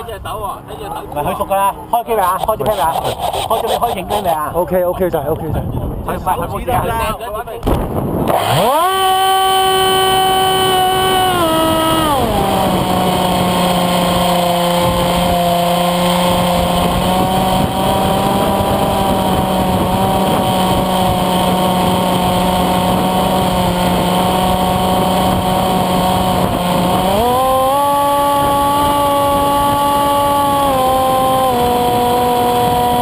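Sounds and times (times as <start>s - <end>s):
electric motor and propeller whine: 0.6s - 5.0s, 7.6s - 33.0s.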